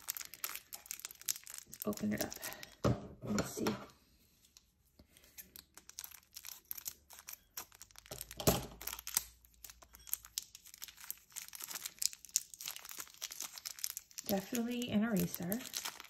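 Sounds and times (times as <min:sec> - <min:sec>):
plastic wrapper crinkling: 0:00.0 - 0:02.9, 0:04.5 - 0:16.0.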